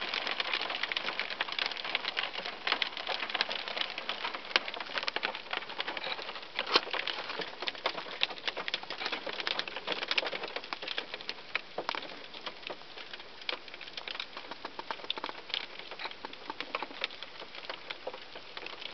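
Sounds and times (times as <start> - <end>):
hail striking car roof: 0.0 - 18.9.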